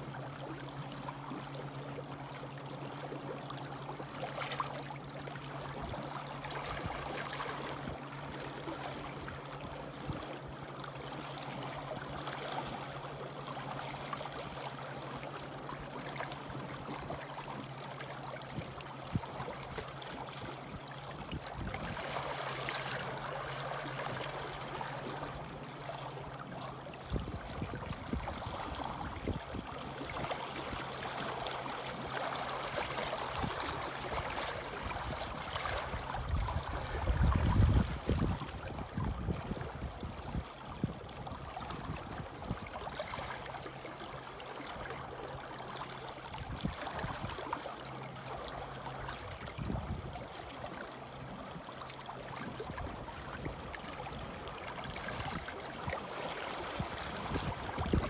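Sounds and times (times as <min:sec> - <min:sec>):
low steady hum: 0:00.0 - 0:47.4
waves lapping against rocks: 0:04.2 - 0:58.0.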